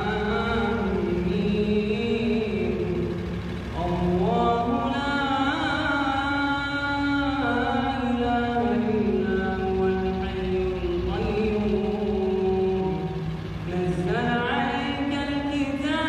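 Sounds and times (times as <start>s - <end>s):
man singing a slow chant: 0.0s - 16.0s.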